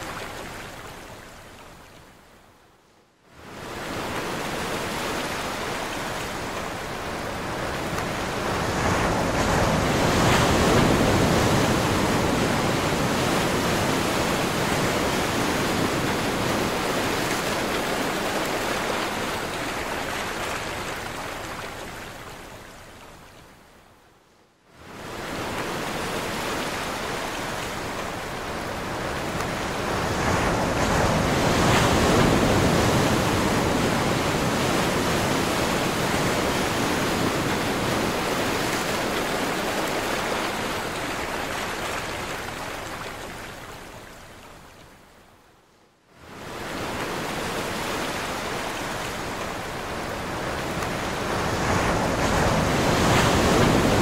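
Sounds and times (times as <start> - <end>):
surf on pebble beach: 0.0 - 1.2, 3.4 - 22.1, 24.8 - 43.9, 46.2 - 54.0.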